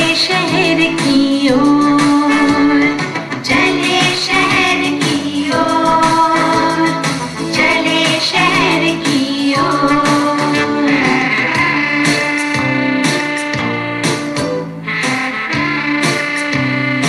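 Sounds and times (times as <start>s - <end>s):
song with singing and instruments: 0.0s - 17.0s.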